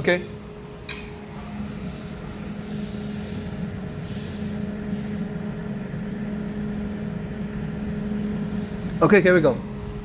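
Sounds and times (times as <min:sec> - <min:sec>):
cooling unit machine hum: 0:00.0 - 0:10.0.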